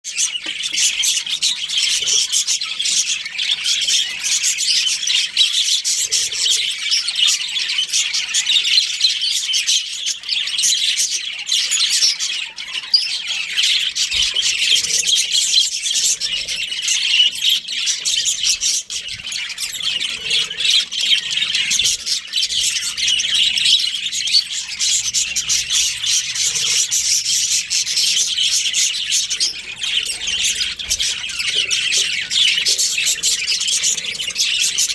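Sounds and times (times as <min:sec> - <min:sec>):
parrots chirping and chattering: 0:00.0 - 0:34.9.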